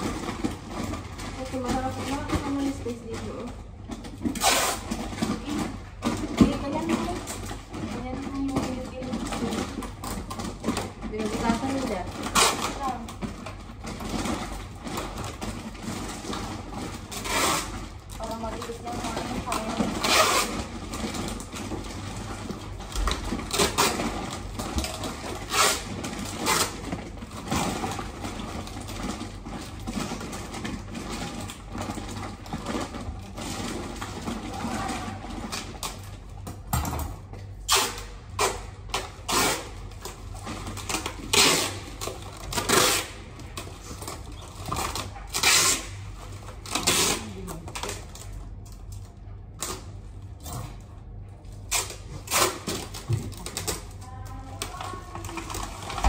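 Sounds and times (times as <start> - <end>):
packaged goods being handled: 0.0 - 56.0.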